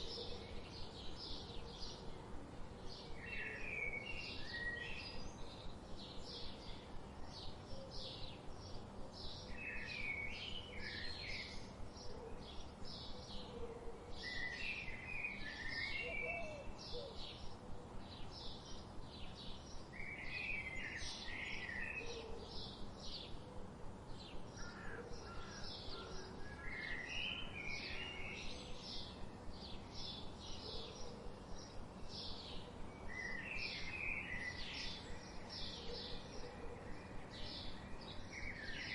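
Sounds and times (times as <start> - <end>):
songbirds chirping: 0.0 - 38.9
steady background hiss: 0.0 - 38.9.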